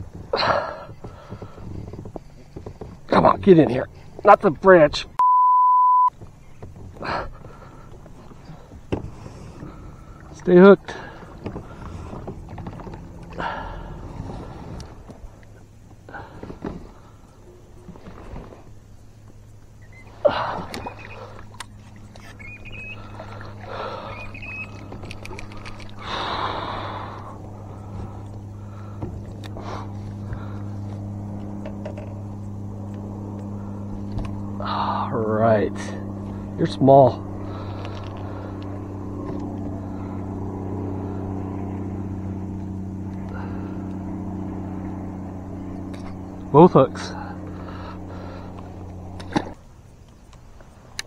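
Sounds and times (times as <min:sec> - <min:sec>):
steady low hum: 0:06.0 - 0:51.0.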